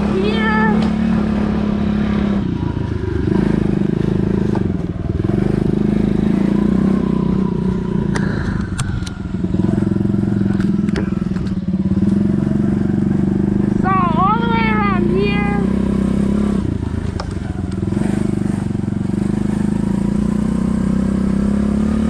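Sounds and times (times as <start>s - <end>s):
pit bike engine running: 0.0s - 22.0s.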